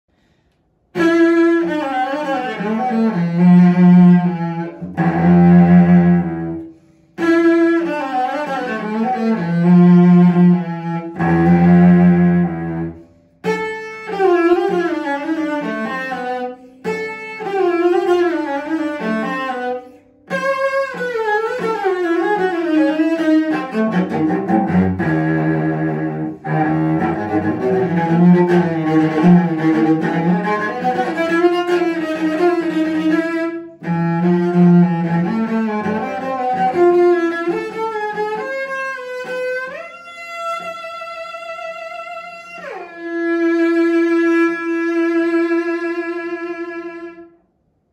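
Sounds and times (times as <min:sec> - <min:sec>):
bowed cello: 0:00.9 - 0:47.4.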